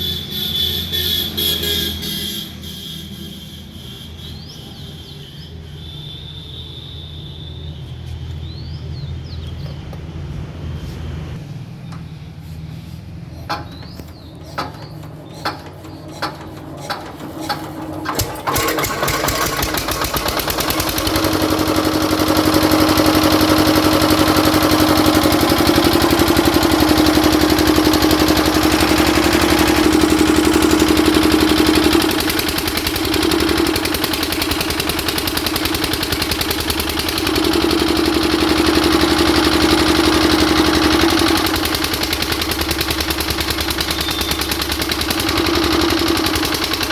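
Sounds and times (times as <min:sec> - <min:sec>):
generator engine cranking and running: 0:00.0 - 0:05.2, 0:11.6 - 0:46.9.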